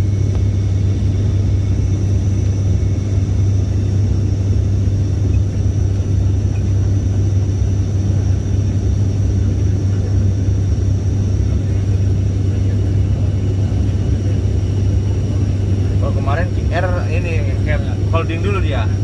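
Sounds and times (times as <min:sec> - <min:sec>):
airflow rumble: 0:00.0 - 0:19.0
airplane cabin engine drone: 0:00.0 - 0:19.0.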